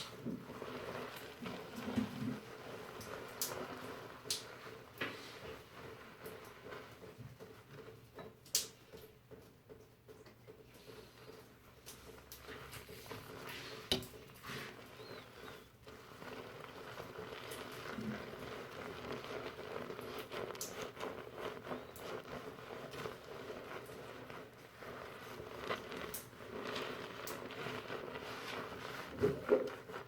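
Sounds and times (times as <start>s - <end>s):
fingers rubbing lather in hair: 0.0s - 8.8s, 10.8s - 30.0s.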